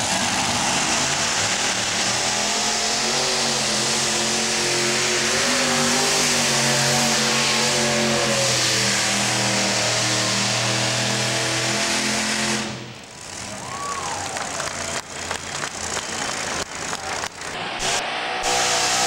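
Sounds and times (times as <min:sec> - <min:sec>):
tractor engine howling: 0:00.0 - 0:19.0.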